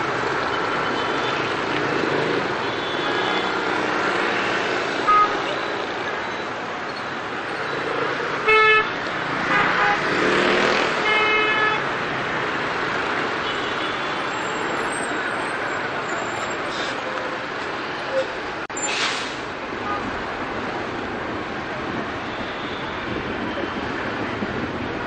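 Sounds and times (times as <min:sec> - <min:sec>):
motorbike engines in traffic: 0:00.0 - 0:25.0.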